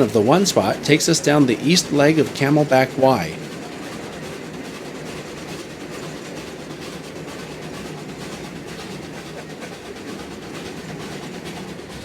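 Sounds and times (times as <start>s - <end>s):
miniature train rumbling and rattling: 0.0s - 12.0s
wheels clicking: 0.0s - 12.0s.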